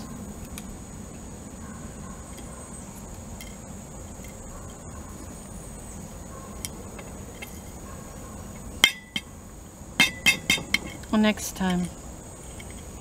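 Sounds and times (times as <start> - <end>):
high-pitched background whine: 0.0 - 13.0.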